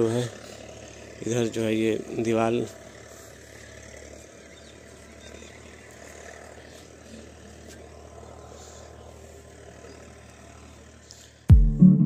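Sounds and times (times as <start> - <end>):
faint outdoor background noise: 0.0 - 11.5
distant engine drone: 0.0 - 12.0.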